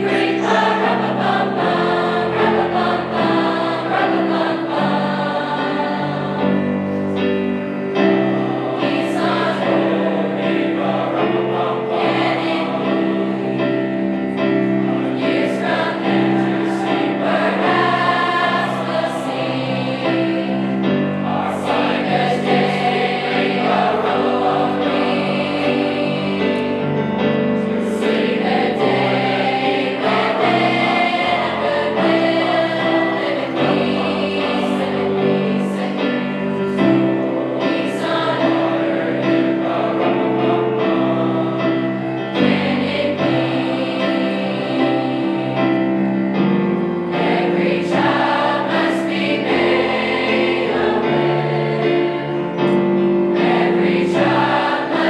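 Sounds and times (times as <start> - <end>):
choir singing: 0.0 - 55.0
instrumental accompaniment: 0.0 - 55.0.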